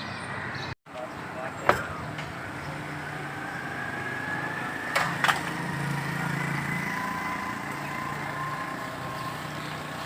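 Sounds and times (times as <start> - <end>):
street noise: 0.0 - 10.0
motorcycle engine running: 1.8 - 10.0.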